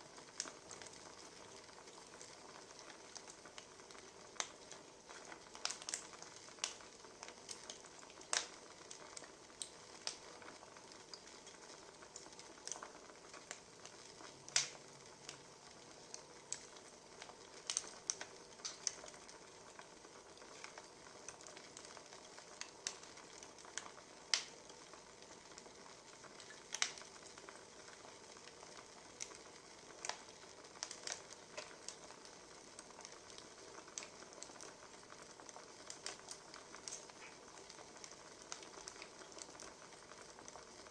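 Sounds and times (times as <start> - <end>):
faint steady hiss: 0.0 - 40.9
firewood crackling: 0.1 - 40.9.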